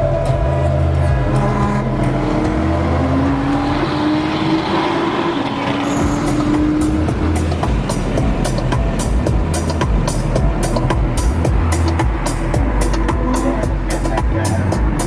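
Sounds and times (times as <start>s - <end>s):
car engine accelerating: 0.0s - 15.0s
music with heavy bass: 0.0s - 15.0s.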